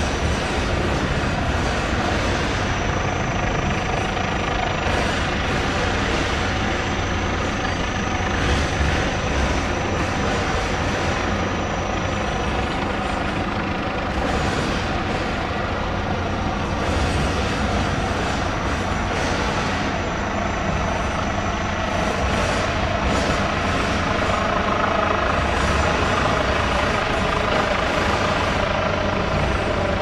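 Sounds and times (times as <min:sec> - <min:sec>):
helicopter rotor and engine: 0:00.0 - 0:30.0
high whine: 0:00.0 - 0:30.0.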